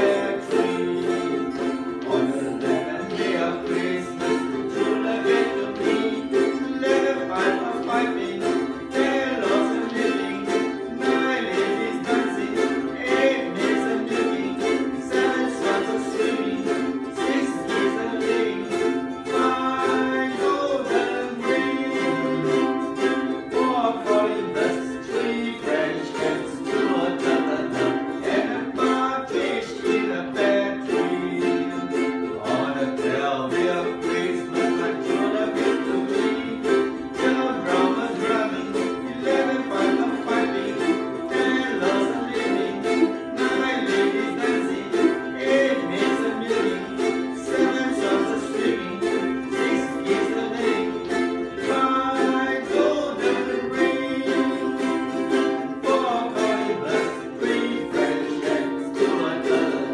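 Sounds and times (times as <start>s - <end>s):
ukuleles strumming chords: 0.0s - 59.9s.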